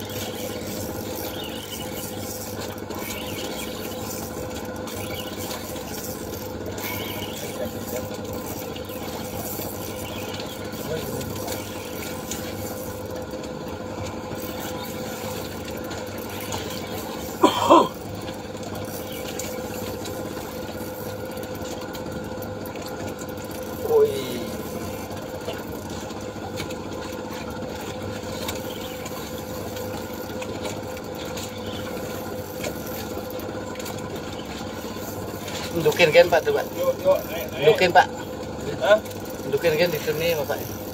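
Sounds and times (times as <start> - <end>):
fishing reel cranking: 0.0 - 13.2, 14.0 - 17.4, 18.2 - 26.7, 27.7 - 40.9
motor hum: 0.0 - 40.9.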